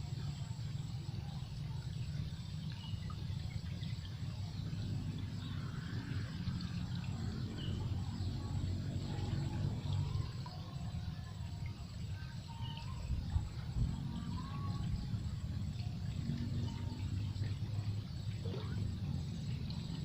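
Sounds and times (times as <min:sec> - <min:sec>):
faint high chirps of creatures: 0:00.0 - 0:20.0.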